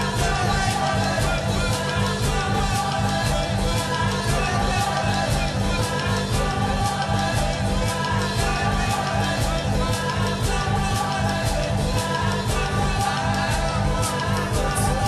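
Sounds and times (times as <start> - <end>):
drum beat with cymbals: 0.0 - 15.0
person singing: 0.0 - 15.0.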